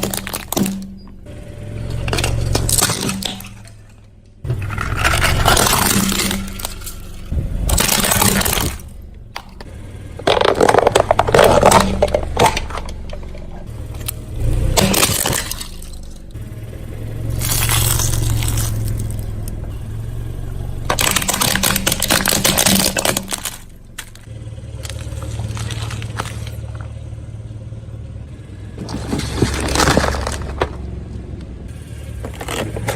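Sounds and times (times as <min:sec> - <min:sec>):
tyre crushing crunchy objects: 0:00.0 - 0:01.2, 0:01.9 - 0:16.4, 0:17.3 - 0:19.5, 0:20.8 - 0:27.0, 0:28.8 - 0:31.3, 0:32.2 - 0:32.9
car engine running: 0:00.0 - 0:32.9.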